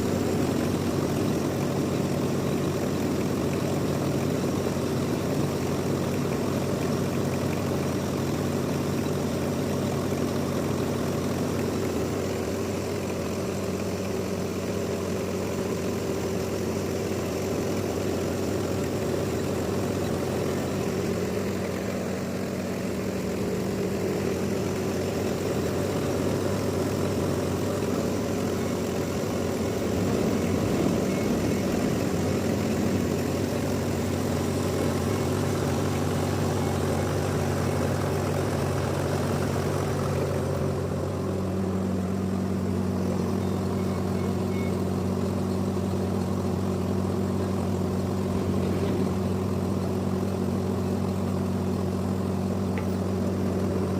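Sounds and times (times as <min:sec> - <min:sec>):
sawmill machinery humming: 0:00.0 - 0:53.9.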